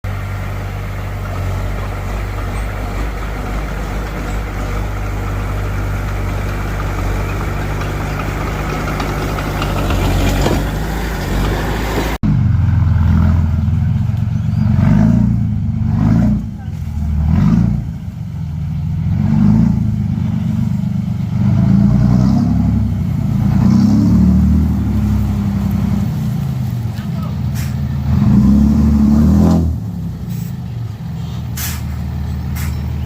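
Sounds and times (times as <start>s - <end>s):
diesel engine rumble: 0.0s - 33.0s.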